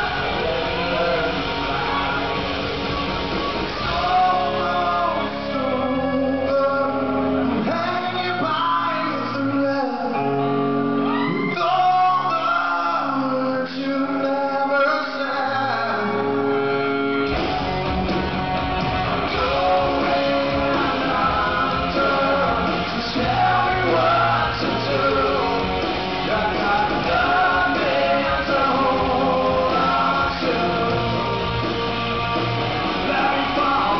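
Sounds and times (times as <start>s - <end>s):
man singing: 0.0s - 2.4s, 3.7s - 10.5s, 11.3s - 16.6s, 19.2s - 31.7s, 32.8s - 33.9s
guitar: 0.0s - 33.9s
live rock band playing: 0.0s - 33.9s.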